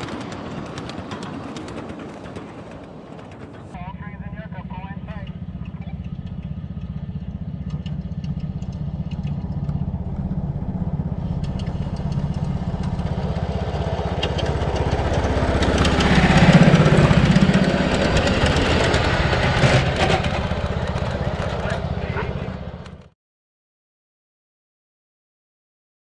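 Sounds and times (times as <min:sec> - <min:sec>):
miniature locomotive engine running: 0:00.0 - 0:03.8, 0:05.2 - 0:23.1
wheels clacking over rails: 0:00.0 - 0:03.8, 0:05.2 - 0:23.1.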